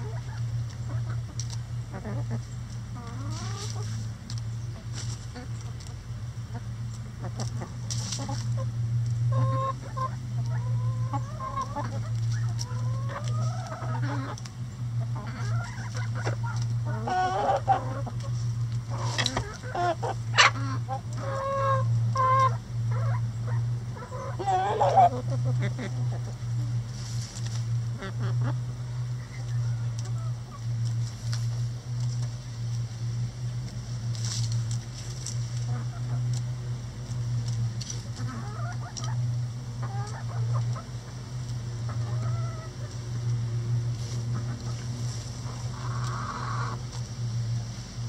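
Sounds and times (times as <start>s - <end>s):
chickens clucking and calling: 0.0s - 48.0s
steady low hum: 0.0s - 48.0s.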